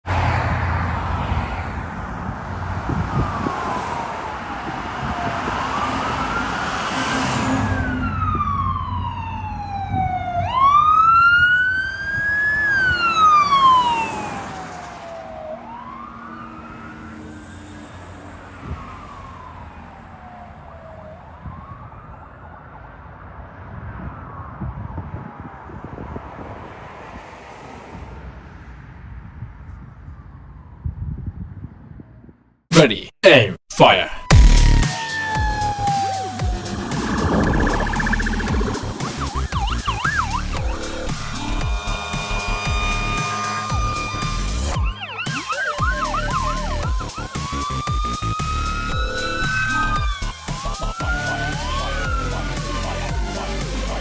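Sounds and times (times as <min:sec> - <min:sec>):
passing road traffic: 0:00.0 - 0:32.4, 0:34.4 - 0:54.0
ambulance siren wailing: 0:02.5 - 0:26.0, 0:34.1 - 0:54.0.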